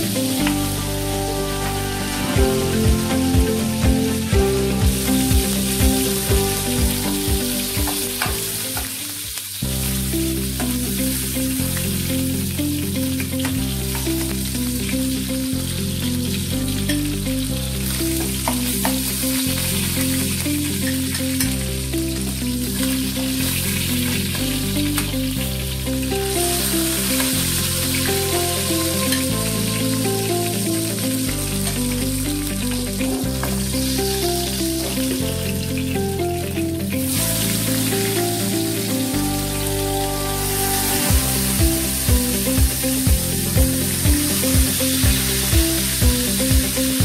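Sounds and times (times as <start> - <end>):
background music with bass line: 0.0 - 47.0
food sizzling in hot oil: 0.0 - 47.0.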